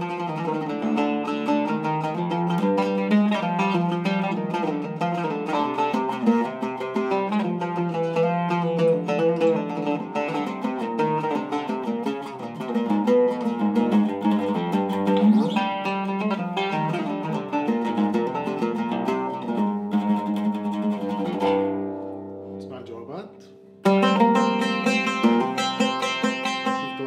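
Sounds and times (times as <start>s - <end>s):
oud played with plectrum: 0.0s - 27.0s.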